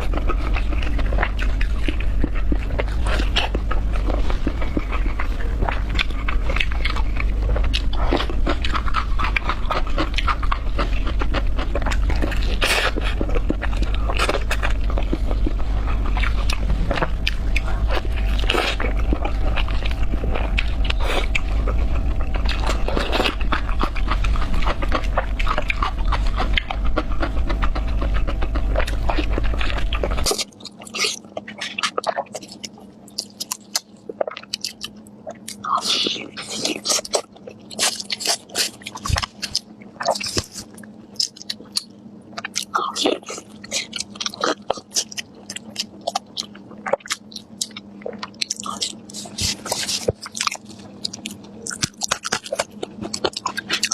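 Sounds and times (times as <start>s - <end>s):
chewing and biting meat: 0.0s - 53.9s
steady low hum: 0.0s - 53.9s.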